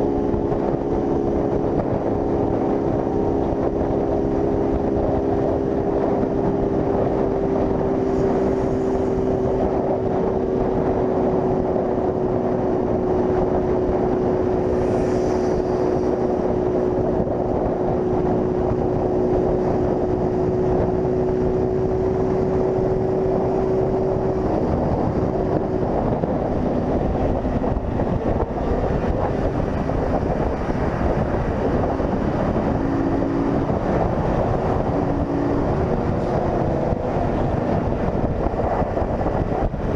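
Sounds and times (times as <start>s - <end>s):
motorcycle engine cruising: 0.0s - 39.9s
road noise: 0.0s - 39.9s
wind on microphone: 0.0s - 39.9s.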